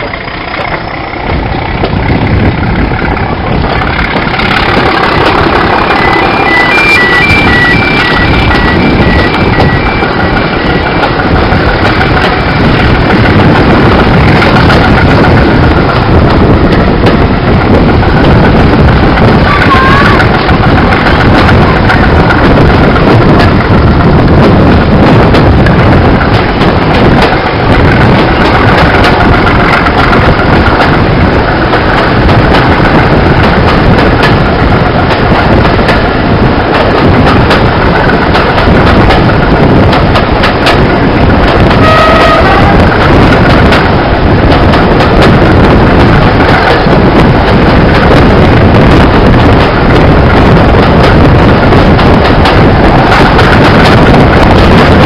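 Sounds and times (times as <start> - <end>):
train running noise: 0.0 - 55.0
wind rushing: 0.0 - 55.0.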